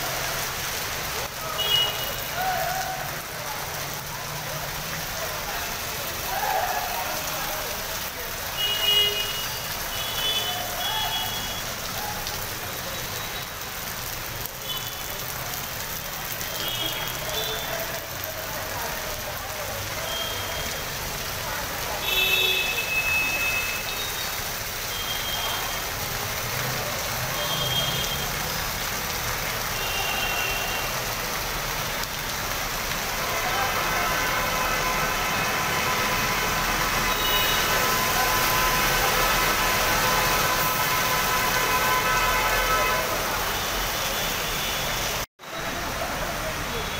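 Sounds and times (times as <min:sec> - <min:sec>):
heavy rain and running water: 0:00.0 - 0:46.9
traffic: 0:00.0 - 0:46.9.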